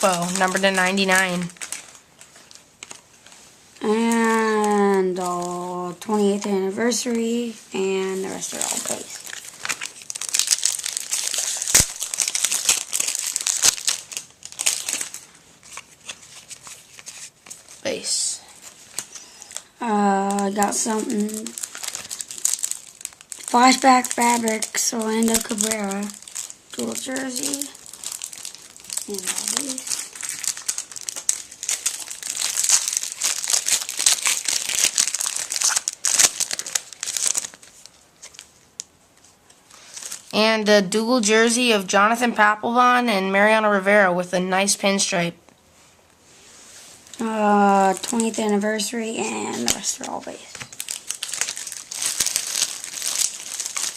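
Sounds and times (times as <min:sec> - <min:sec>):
wrapper crinkling and tearing: 0:00.0 - 0:07.2, 0:07.8 - 0:39.0, 0:39.7 - 0:40.7, 0:47.0 - 0:53.9.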